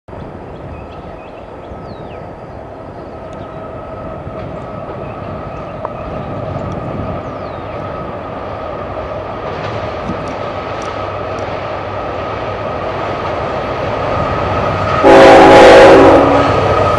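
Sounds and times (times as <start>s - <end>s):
train rolling: 0.1s - 16.9s.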